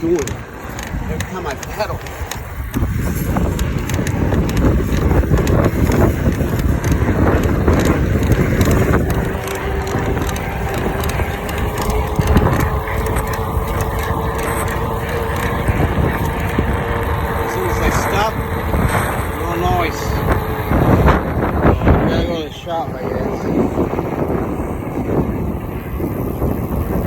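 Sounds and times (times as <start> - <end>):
bike frame creaking and clicking: 0.0 - 27.0
steady motor whine: 0.0 - 27.0
wind: 0.0 - 27.0.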